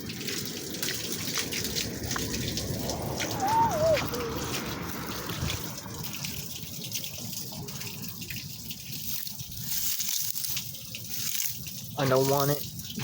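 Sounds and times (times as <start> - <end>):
small water drips: 0.0 - 13.0
water trickling from drain pipe: 0.0 - 13.0.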